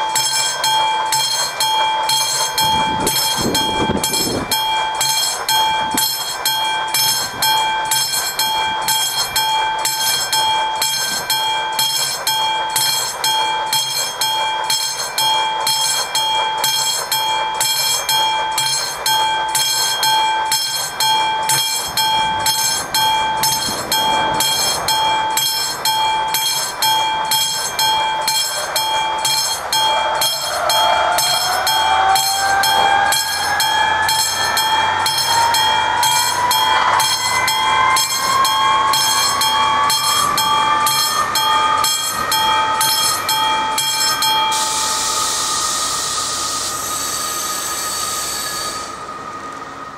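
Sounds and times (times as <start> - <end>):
level crossing bell ringing: 0.0 - 49.0
rising whine: 0.0 - 49.9.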